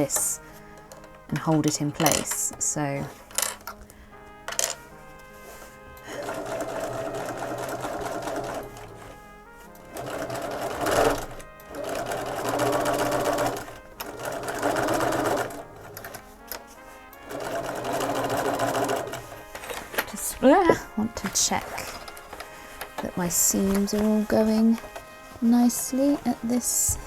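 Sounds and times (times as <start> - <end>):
sewing machine stitching: 0.0 - 3.8, 5.5 - 27.0.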